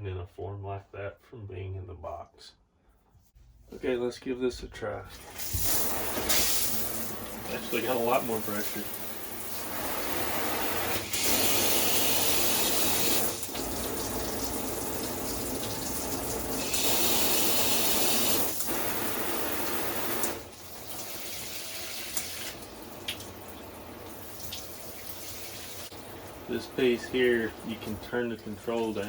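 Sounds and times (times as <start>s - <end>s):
water spraying from shower head: 5.2s - 29.0s.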